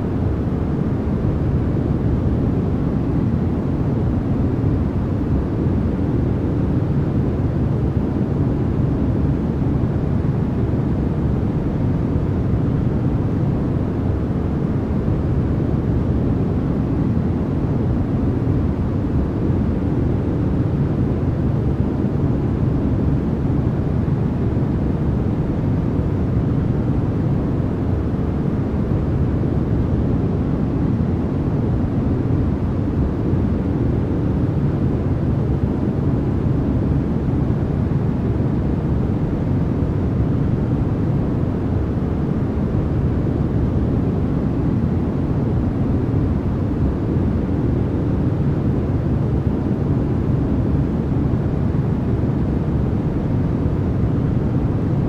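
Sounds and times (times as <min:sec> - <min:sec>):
deep brown noise rush: 0:00.0 - 0:55.0.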